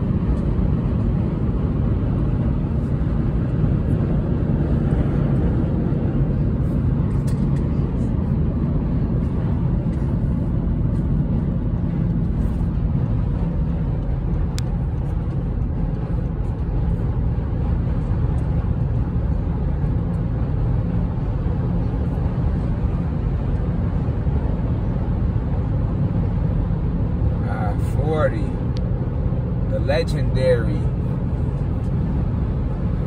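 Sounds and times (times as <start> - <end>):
car cabin road noise: 0.0 - 33.0.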